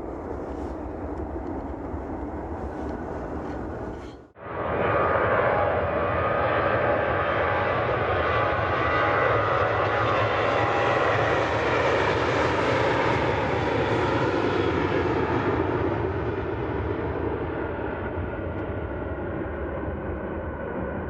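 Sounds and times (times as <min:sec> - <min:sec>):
jet airliner engines roaring: 0:00.0 - 0:21.0.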